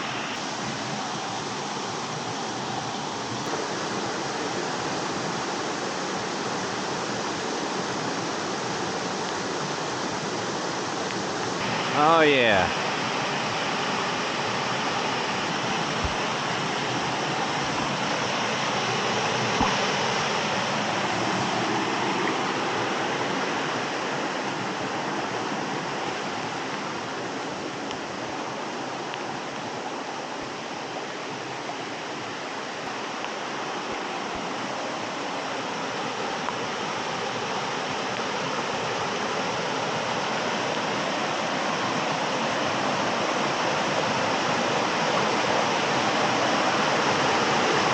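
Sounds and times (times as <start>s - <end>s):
water rushing over rocks: 0.0s - 47.9s.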